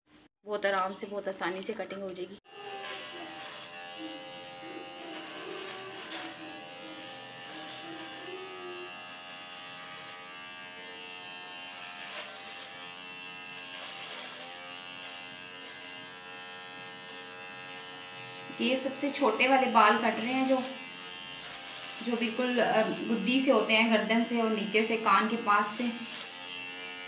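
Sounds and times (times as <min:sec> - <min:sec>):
electric hair clipper buzzing: 0:02.4 - 0:27.0.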